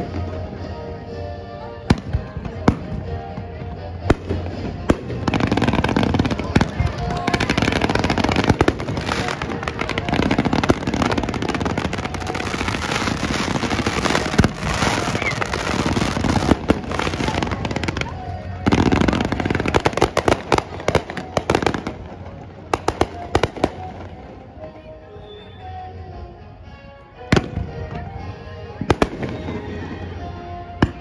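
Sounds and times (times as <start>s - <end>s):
fireworks crackling and popping: 1.9s - 24.6s, 27.3s - 31.0s.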